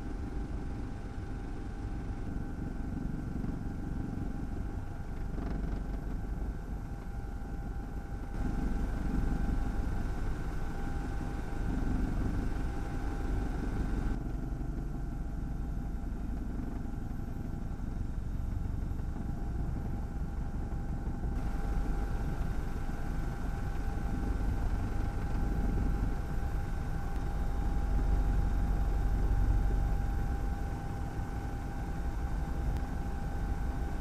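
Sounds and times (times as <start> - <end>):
helicopter engine and rotor: 0.0 - 34.0.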